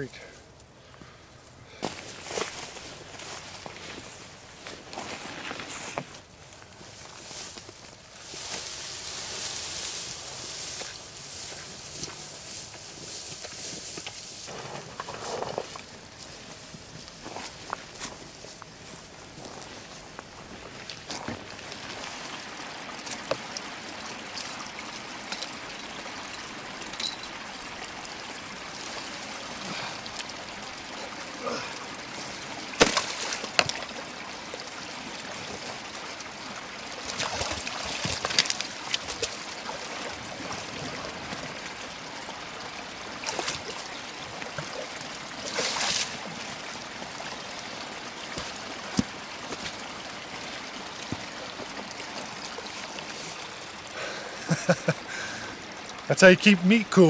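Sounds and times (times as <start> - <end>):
creek water running: 0.0 - 57.0
water splashes and sloshes: 1.8 - 57.0.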